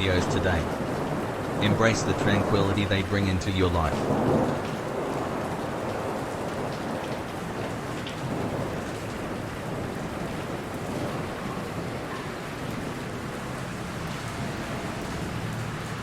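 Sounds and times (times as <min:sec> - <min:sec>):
heavy rain falling: 0:00.0 - 0:16.0
low rumble of thunder: 0:00.0 - 0:16.0.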